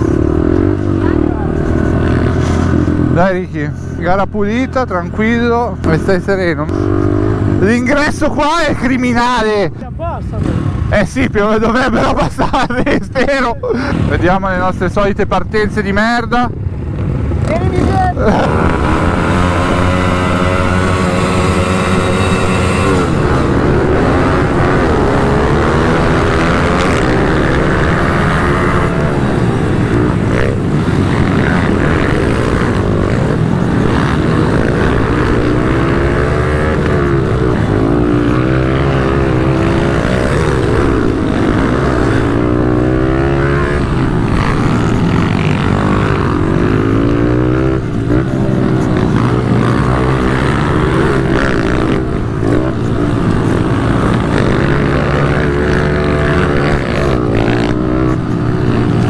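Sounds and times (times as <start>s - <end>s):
motorbike engine revving up and down: 0.0s - 9.6s, 15.7s - 59.0s
pit bike engines revving: 0.0s - 59.0s.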